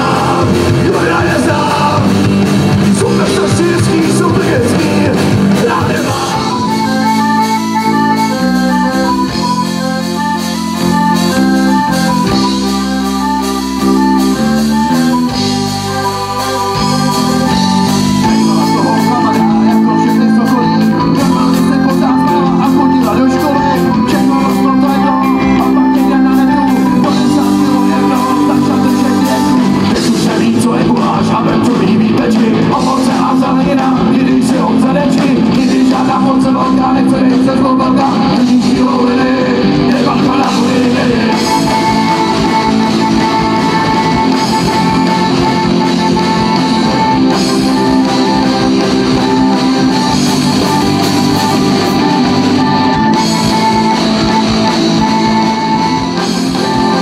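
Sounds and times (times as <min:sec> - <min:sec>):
accordion: 0:00.0 - 0:57.0
bass guitar: 0:00.0 - 0:57.0
drums: 0:00.0 - 0:57.0
electric guitars: 0:00.0 - 0:57.0.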